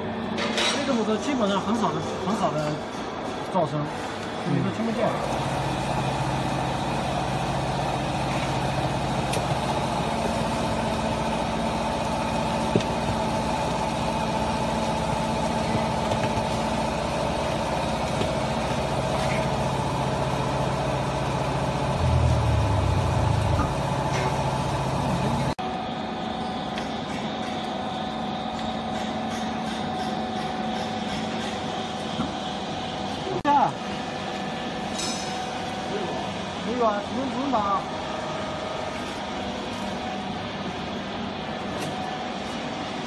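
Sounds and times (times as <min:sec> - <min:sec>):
hydraulic power unit humming: 0:00.0 - 0:43.0.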